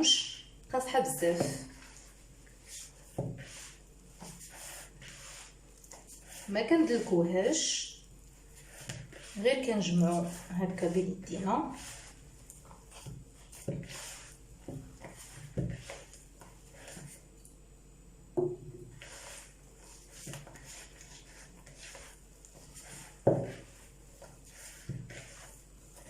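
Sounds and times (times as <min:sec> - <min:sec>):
hands squishing dough: 0:01.2 - 0:17.3, 0:18.9 - 0:26.0.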